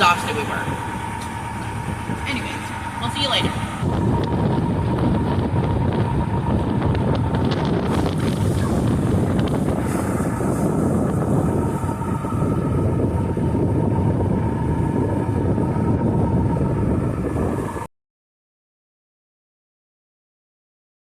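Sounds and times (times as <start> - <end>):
low rumble: 0.0 - 17.9
wind buffeting microphone: 0.0 - 17.9.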